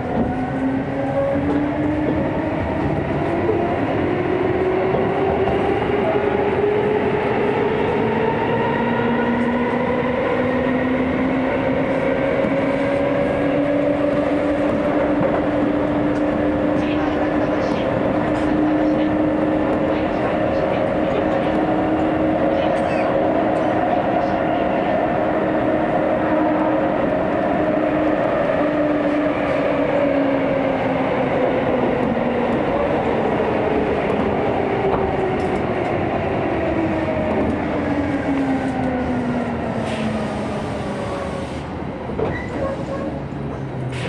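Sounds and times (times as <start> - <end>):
train wheel and running noise: 0.0 - 44.0.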